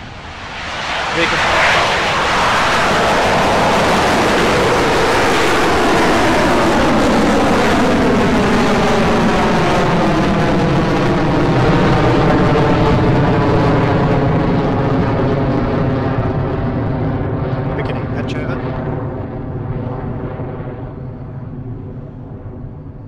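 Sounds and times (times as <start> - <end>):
rocket engines roaring: 0.0 - 23.0.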